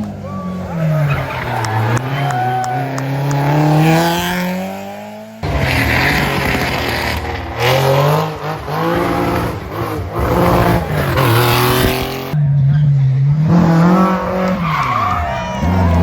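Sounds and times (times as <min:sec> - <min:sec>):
rally car engine accelerating: 0:00.0 - 0:16.0
rally car revving: 0:00.0 - 0:16.0.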